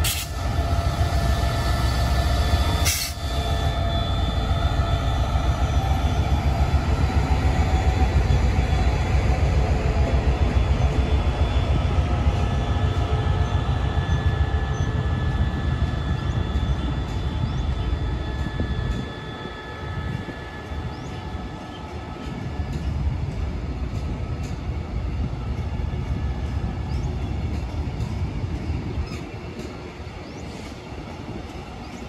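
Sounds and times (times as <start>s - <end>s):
locomotive engine drone: 0.0s - 32.0s.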